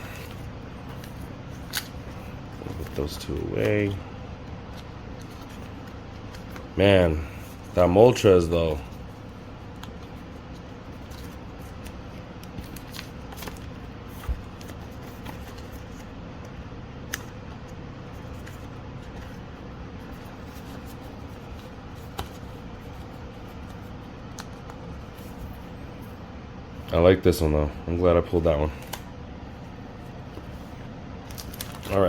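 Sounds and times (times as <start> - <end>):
trading cards being handled: 0.0 - 26.2, 28.4 - 32.0
low room hum: 0.0 - 32.0.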